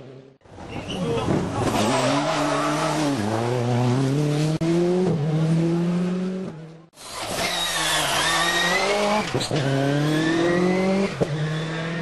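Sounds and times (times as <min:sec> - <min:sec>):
rally car engine accelerating: 0:01.4 - 0:12.0.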